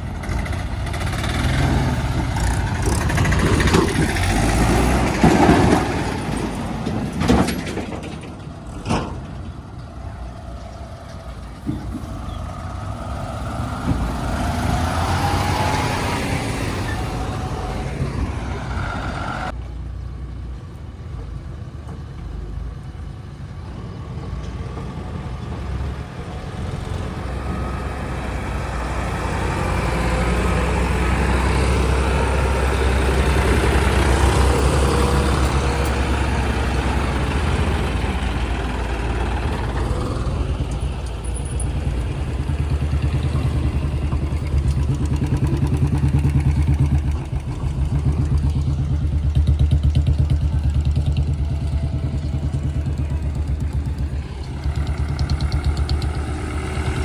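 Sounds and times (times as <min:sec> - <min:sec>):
heavy diesel engines rumbling: 0:00.0 - 0:57.0.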